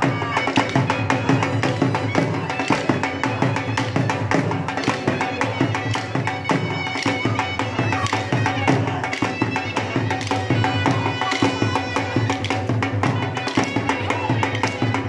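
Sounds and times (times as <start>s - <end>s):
reedy wind instrument melody: 0.0s - 15.0s.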